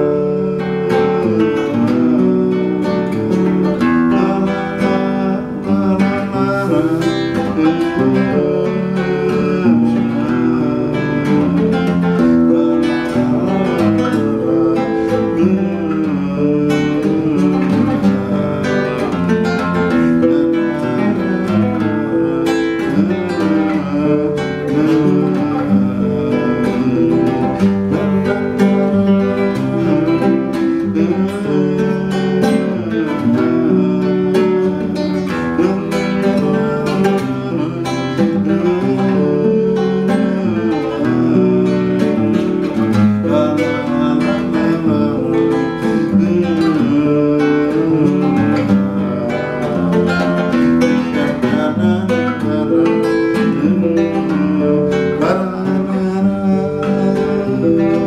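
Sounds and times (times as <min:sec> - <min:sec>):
classical guitar strumming chords: 0:00.0 - 0:58.0.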